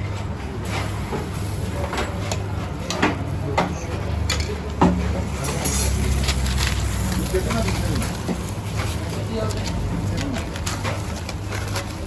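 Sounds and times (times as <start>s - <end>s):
utensils and dishes clinking: 0.2s - 12.0s.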